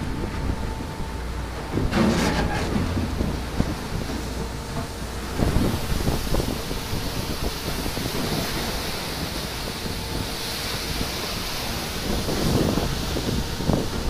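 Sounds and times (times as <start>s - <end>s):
churned water rushing: 0.0s - 14.0s
wind on microphone: 0.0s - 14.0s
sea ice grinding against hull: 1.2s - 14.0s.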